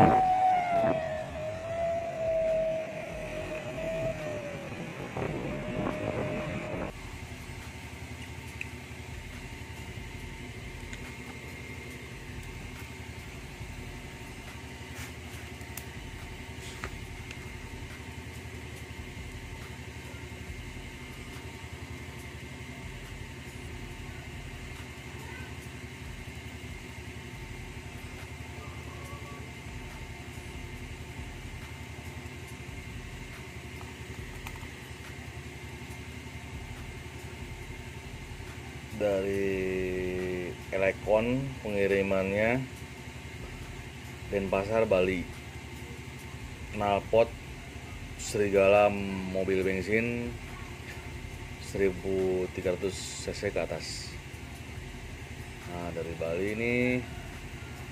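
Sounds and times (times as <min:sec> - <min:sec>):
steady mechanical hum: 0:00.0 - 0:57.9.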